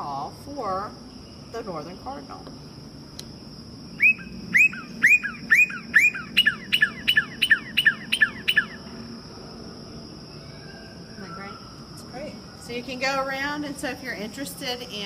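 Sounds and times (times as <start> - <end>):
recorded cardinal song: 0.0 - 15.0.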